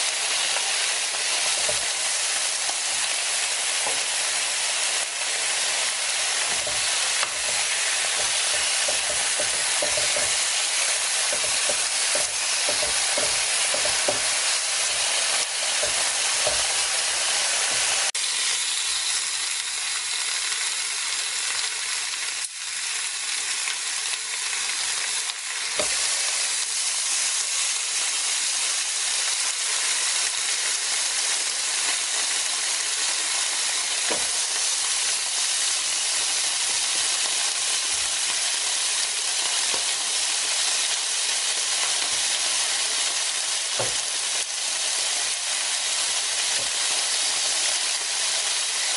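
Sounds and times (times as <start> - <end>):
pork sizzling on grill plate: 0.0 - 48.9.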